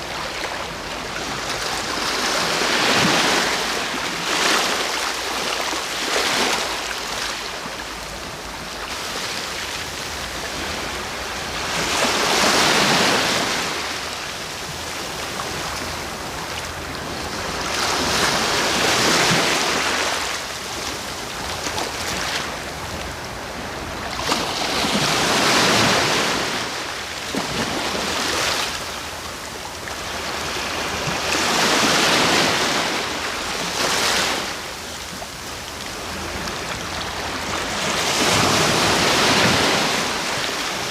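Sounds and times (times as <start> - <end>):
sea waves washing in: 0.0 - 40.9.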